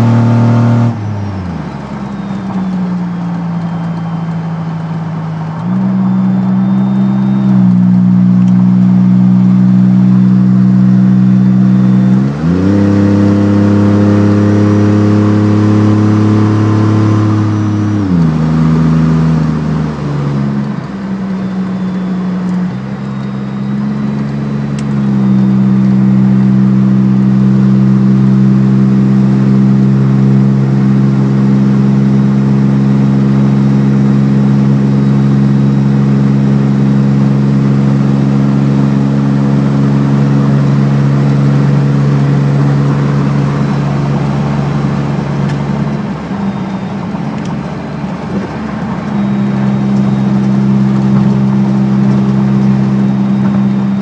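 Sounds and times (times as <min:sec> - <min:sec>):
engine droning under load: 0:00.0 - 0:54.0
road noise: 0:00.0 - 0:54.0.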